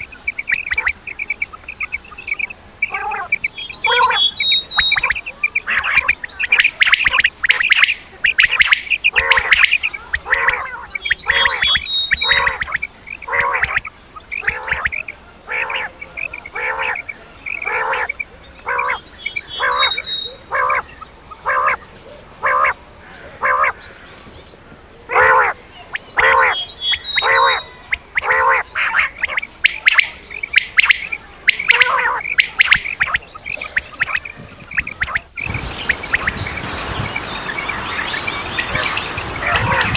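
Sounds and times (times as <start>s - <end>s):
quail calling: 0.0s - 24.2s, 25.1s - 39.9s.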